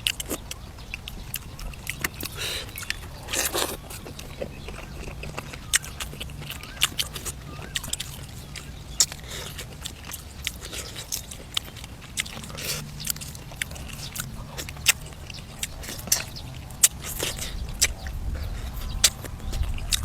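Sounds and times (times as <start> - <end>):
person chewing and biting duck: 0.0 - 20.0.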